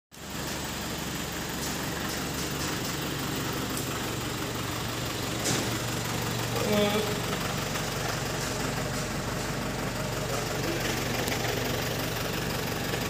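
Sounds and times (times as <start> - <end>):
truck engine idling: 0.2 - 13.0.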